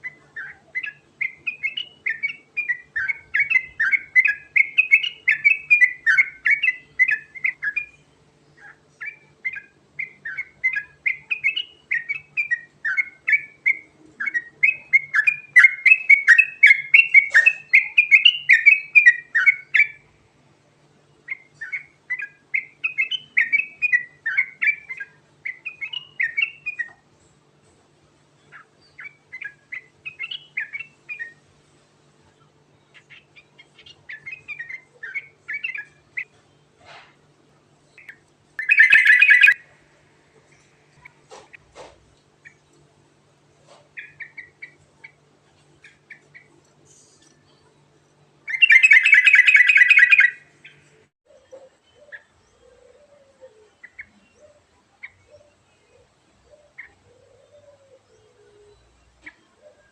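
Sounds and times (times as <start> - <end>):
bird singing rolling song: 0.0 - 27.1, 28.2 - 36.9, 37.6 - 59.9.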